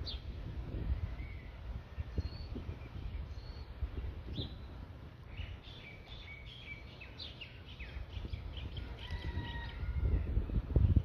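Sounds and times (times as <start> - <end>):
small birds chirping: 0.0 - 11.0
whistled bird notes: 1.0 - 10.0.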